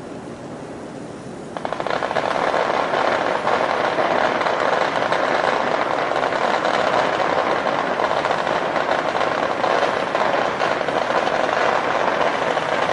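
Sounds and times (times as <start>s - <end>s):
firecrackers crackling: 1.6s - 12.9s.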